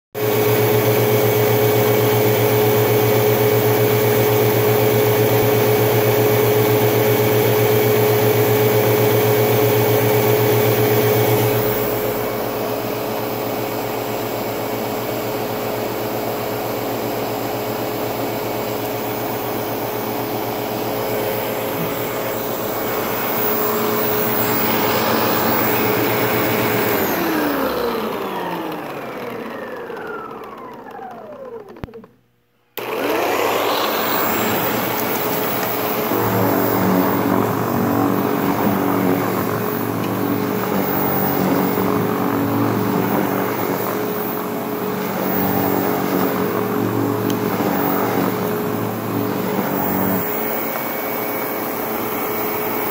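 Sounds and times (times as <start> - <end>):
upright vacuum cleaner running: 0.2 - 52.9.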